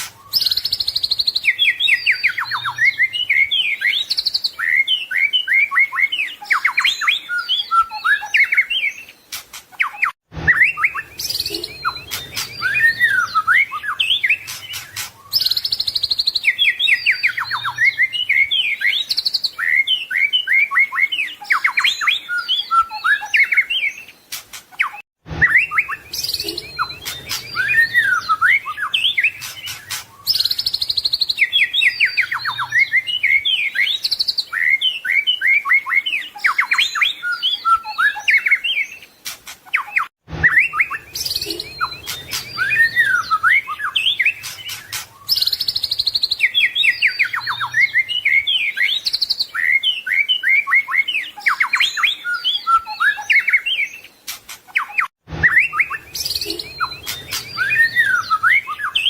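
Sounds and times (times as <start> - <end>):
songbird singing trills and whistles: 0.0 - 59.0.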